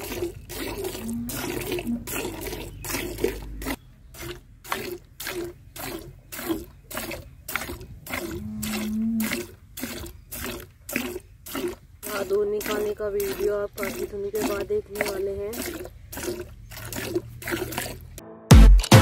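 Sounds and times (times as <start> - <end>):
milk squirting into a pail: 0.0 - 18.2.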